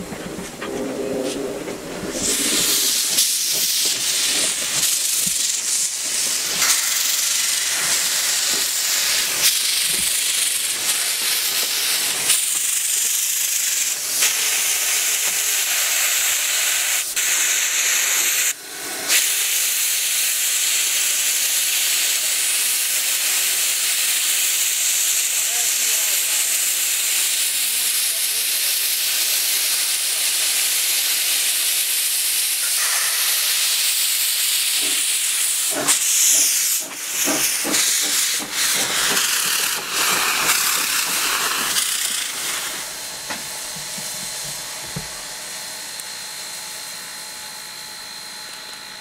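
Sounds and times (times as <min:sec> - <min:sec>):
steam locomotive hissing steam: 0:00.0 - 0:49.0.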